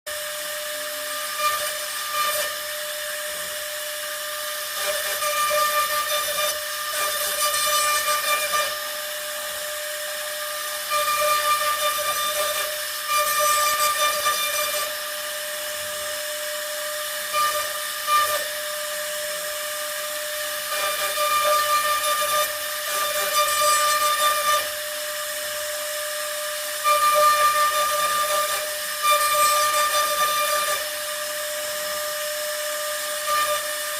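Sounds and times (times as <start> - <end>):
router bit cutting: 0.1 - 33.9
router spindle whining: 0.1 - 33.9.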